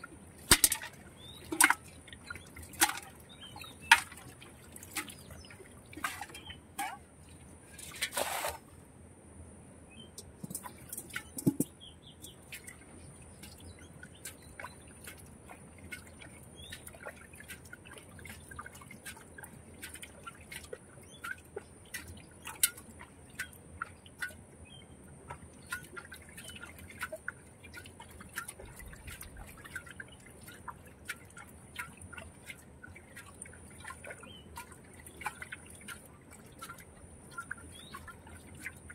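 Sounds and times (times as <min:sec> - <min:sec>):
muddy water splashing: 0:00.0 - 0:08.7, 0:10.3 - 0:38.9.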